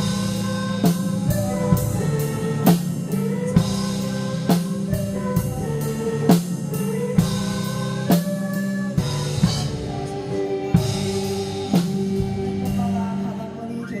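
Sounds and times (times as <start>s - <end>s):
band playing: 0.0s - 14.0s.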